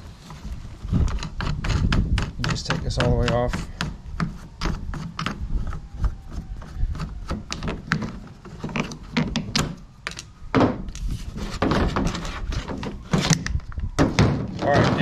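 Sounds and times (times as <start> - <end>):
plastic tube parts clicking: 1.0 - 11.1, 11.7 - 15.0.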